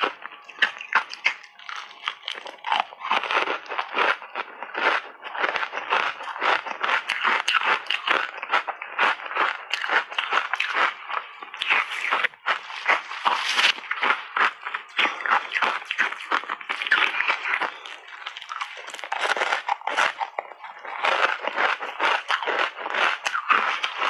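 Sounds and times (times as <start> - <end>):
ice chips crunching when chewed: 0.0 - 24.0.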